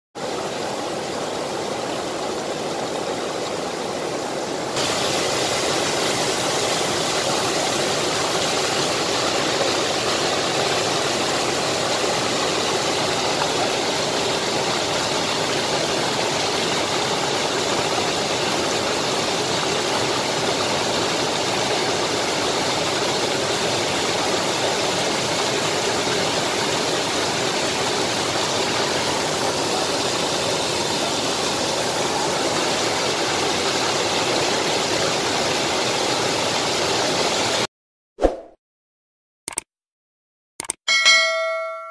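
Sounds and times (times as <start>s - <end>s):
flood water rushing over ledge: 0.2s - 37.7s.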